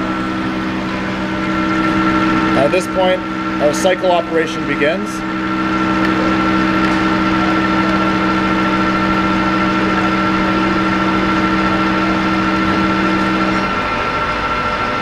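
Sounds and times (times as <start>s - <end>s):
high machine whine: 0.0s - 15.0s
lathe machine hum: 0.0s - 15.0s.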